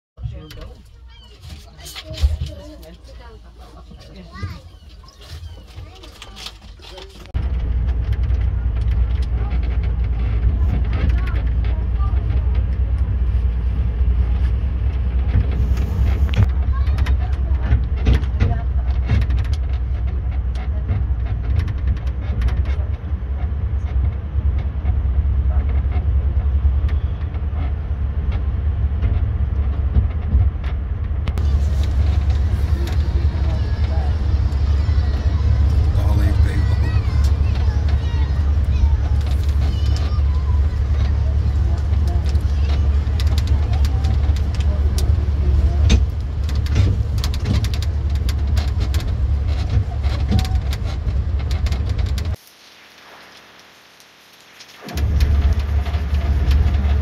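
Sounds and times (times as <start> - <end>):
train rumbling: 0.2 - 52.4, 54.8 - 57.0
carriage knocks and rattles: 3.9 - 52.4.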